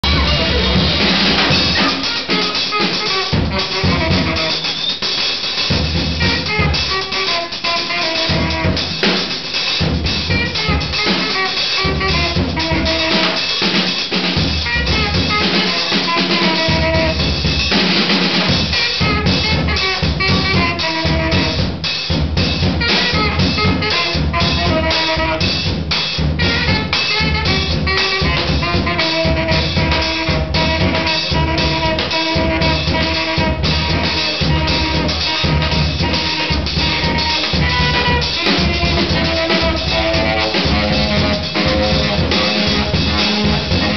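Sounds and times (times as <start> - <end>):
reed horn playing notes: 0.0 - 4.7, 6.2 - 9.0, 10.0 - 13.6, 14.6 - 17.5, 18.7 - 21.7, 22.8 - 25.7, 26.4 - 43.9
drum kit played busily: 0.0 - 43.9.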